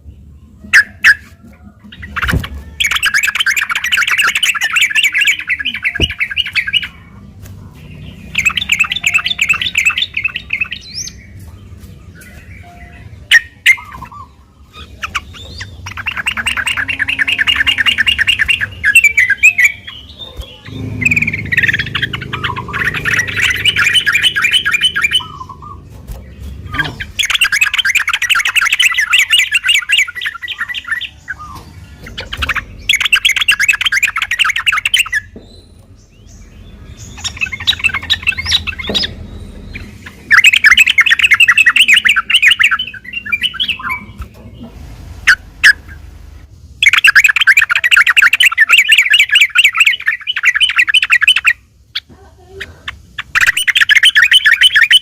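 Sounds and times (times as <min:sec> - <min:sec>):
bird chattering song: 0:00.0 - 0:44.7, 0:45.3 - 0:55.0.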